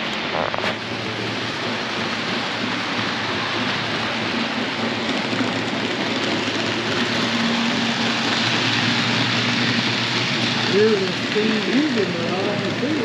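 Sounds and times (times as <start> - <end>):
model train wheels rattling: 0.1 - 13.0
motor hum: 0.1 - 13.0.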